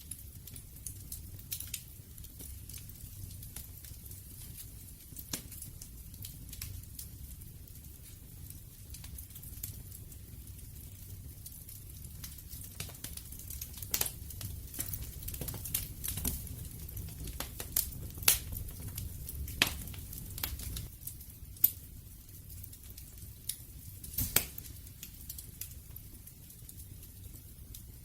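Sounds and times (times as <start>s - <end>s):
fire snaps and pops: 0.0s - 28.0s
low rumble of flames: 0.0s - 28.0s
wood fire crackling: 0.0s - 28.0s.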